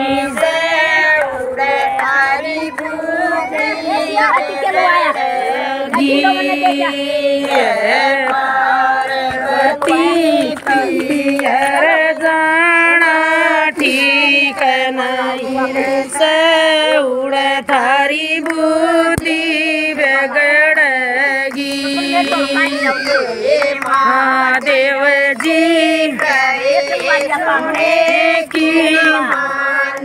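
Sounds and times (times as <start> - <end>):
women singing devotional song: 0.0 - 30.0.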